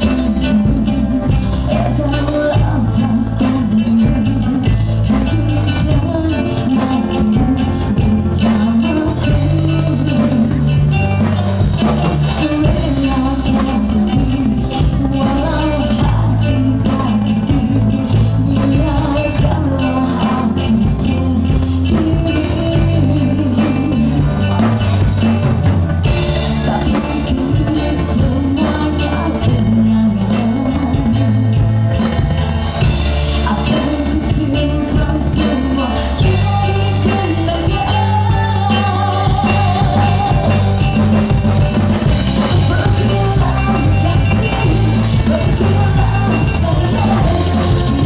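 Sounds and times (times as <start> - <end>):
bass guitar: 0.0 - 48.0
drum kit: 0.0 - 48.0
live rock band playing: 0.0 - 48.0
person singing: 0.0 - 48.0.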